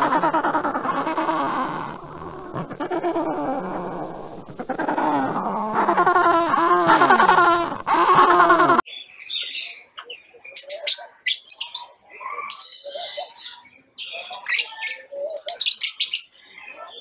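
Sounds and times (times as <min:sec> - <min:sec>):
birds chattering and chirping: 0:00.0 - 0:17.0.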